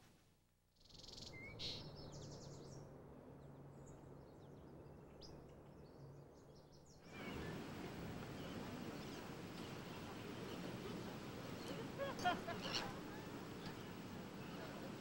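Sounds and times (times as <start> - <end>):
outdoor noise: 0.0 - 15.0.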